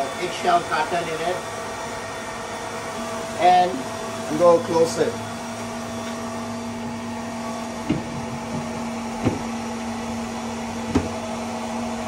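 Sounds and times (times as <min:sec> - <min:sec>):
cooling fans whirring: 0:00.0 - 0:12.0.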